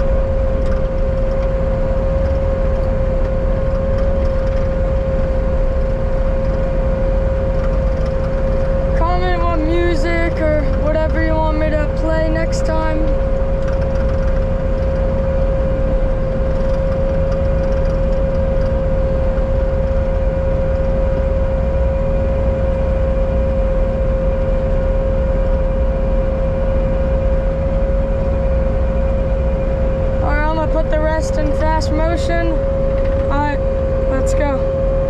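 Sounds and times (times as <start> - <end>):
diesel engine running: 0.0 - 35.0
steady engine whine: 0.0 - 35.0.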